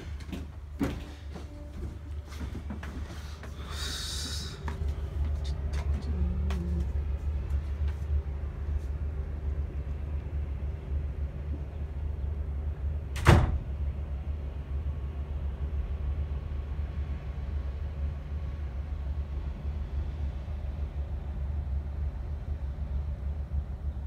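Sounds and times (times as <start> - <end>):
boat engine rumble: 0.0 - 24.0.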